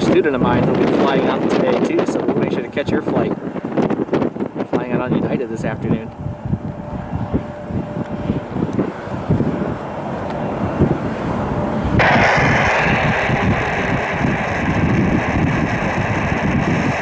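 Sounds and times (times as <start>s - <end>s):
jet airliner engine noise: 0.0s - 17.0s
wind buffeting microphone: 0.0s - 17.0s.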